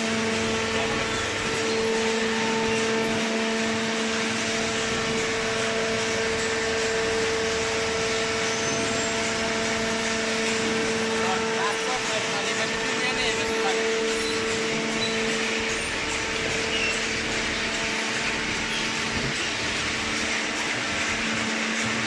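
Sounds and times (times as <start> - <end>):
baler motor and pump humming: 0.0 - 22.0.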